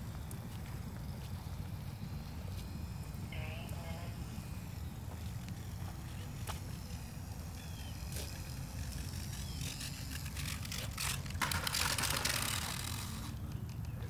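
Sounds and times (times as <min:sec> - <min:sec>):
model plane skidding on concrete: 0:00.0 - 0:13.9.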